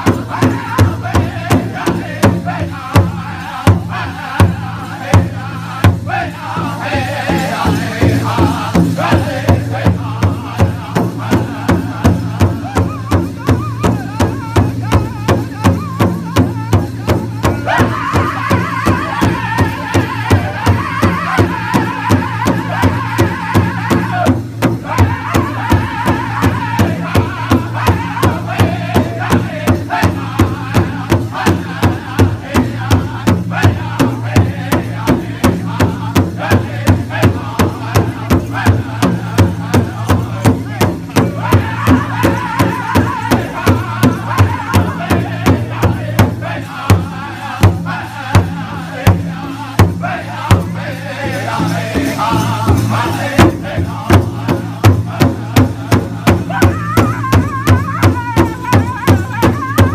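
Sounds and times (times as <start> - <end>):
group singing in chorus: 0.0 - 59.9
large drum beating: 0.0 - 59.9.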